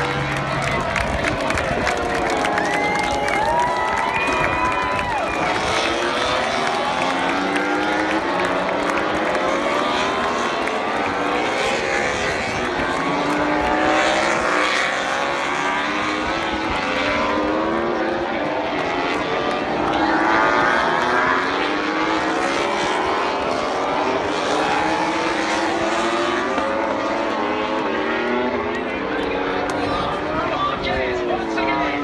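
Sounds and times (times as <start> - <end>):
racing motorcycle engines revving: 0.0 - 32.0.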